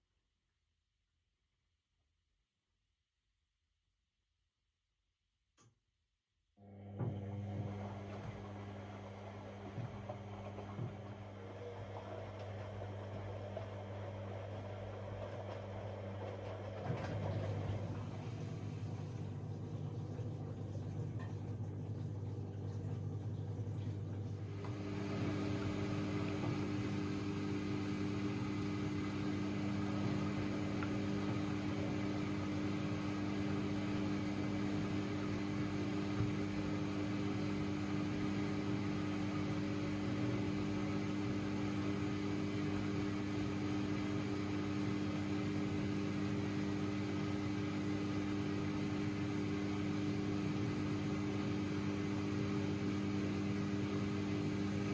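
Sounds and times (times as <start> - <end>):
washing machine humming: 6.6 - 54.9.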